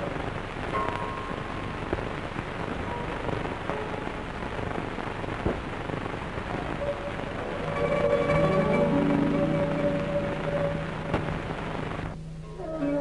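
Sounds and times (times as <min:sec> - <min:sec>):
crackling record hiss: 0:00.0 - 0:13.0
faint music: 0:00.0 - 0:13.0.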